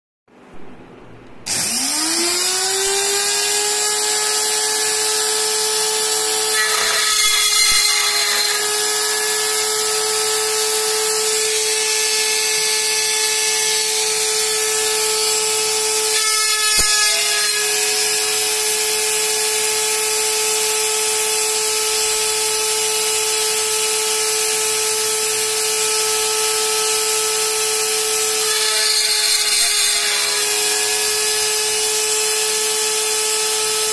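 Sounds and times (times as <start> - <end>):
drill bit cutting steel: 1.5 - 33.9
drill spindle motor whining: 1.5 - 33.9.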